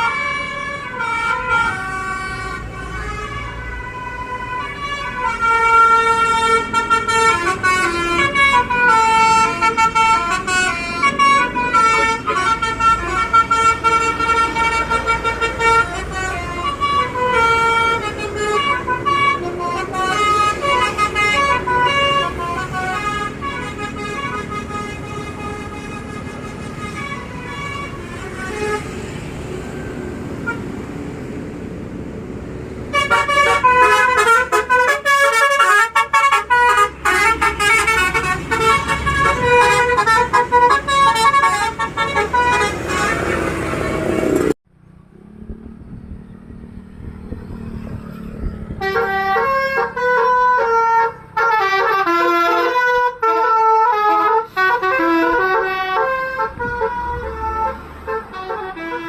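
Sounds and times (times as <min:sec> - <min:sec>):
bus musical air horns: 0:00.0 - 0:31.0, 0:32.8 - 0:44.6, 0:48.2 - 0:59.0
engine and traffic noise: 0:00.0 - 0:59.0.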